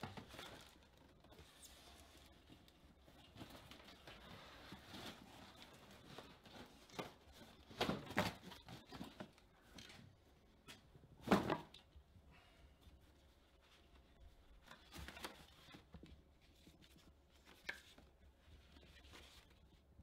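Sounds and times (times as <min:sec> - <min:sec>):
paper rustling: 0:00.0 - 0:11.7, 0:13.1 - 0:20.0.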